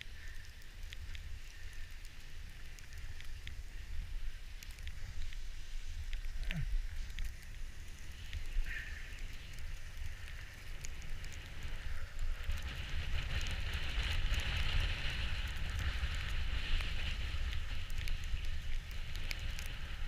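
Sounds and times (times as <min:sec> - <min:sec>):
snow crackles: 0:00.0 - 0:20.0
wind rumble on microphone: 0:00.0 - 0:20.0.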